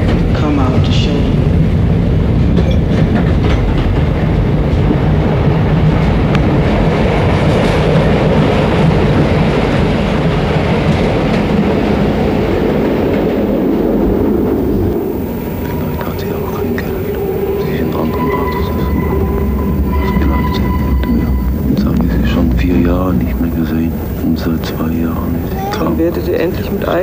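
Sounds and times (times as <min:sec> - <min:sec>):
train rumbling along track: 0:00.0 - 0:27.0.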